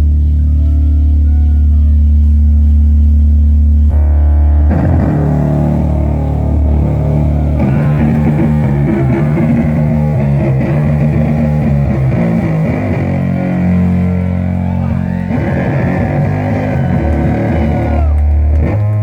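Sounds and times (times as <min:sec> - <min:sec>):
distorted electric guitar chords: 0:02.0 - 0:19.0.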